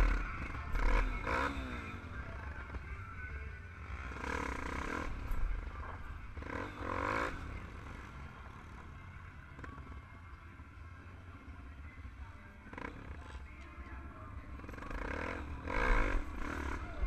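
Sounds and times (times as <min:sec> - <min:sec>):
motorcycle engine roars: 0:00.0 - 0:17.0
motorcycle engines rumbling: 0:00.0 - 0:17.0.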